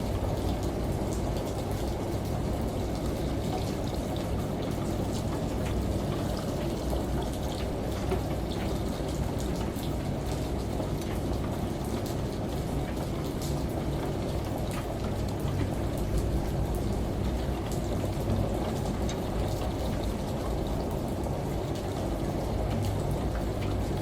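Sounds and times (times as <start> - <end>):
falling water: 0.0 - 24.0
water dripping: 0.0 - 24.0.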